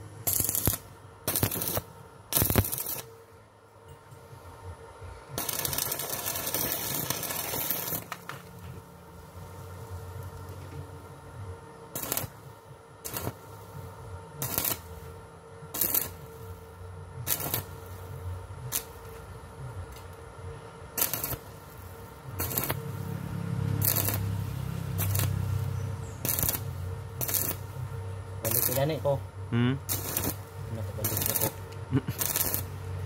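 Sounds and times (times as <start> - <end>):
welding arc crackling: 0.0 - 3.2, 5.3 - 33.0
steady hum: 0.0 - 33.0.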